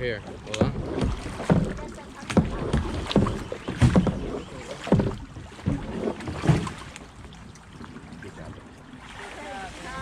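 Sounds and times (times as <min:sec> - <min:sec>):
kayak paddle splashing: 0:00.0 - 0:10.0
water wash: 0:00.0 - 0:10.0
wind: 0:00.0 - 0:10.0.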